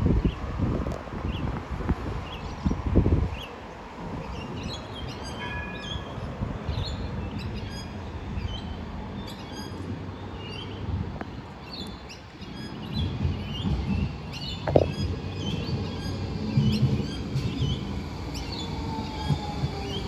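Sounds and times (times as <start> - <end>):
tram rumbling on track: 0.0 - 20.0.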